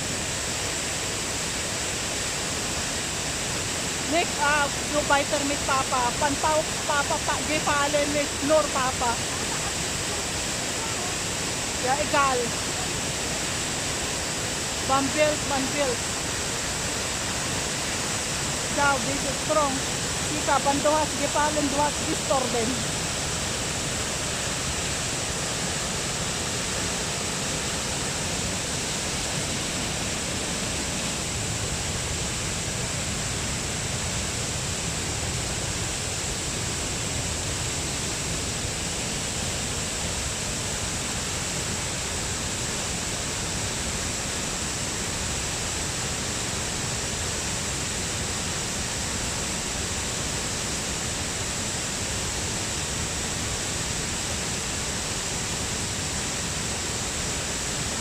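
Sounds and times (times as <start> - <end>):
torrent of rushing water: 0.0 - 58.0.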